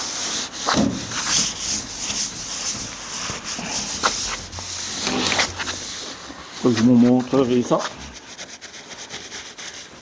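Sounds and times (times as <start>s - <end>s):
hand sanding a panel: 0.0s - 10.0s.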